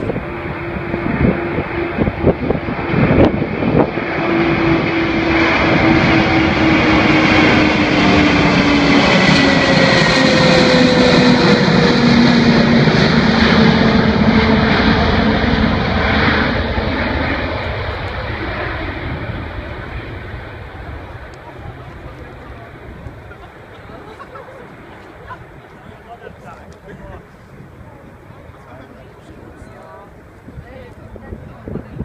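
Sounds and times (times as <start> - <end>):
airplane passing close by: 0.0 - 32.0.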